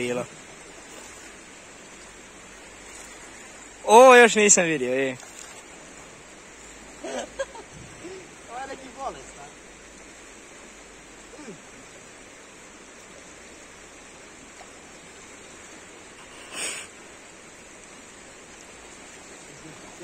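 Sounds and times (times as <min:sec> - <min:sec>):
river water flowing over rocks: 0:00.0 - 0:20.0.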